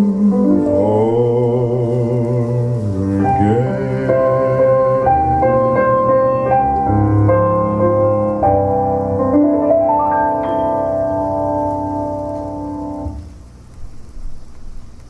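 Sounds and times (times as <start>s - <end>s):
piano ballad over loudspeakers: 0.0s - 15.0s.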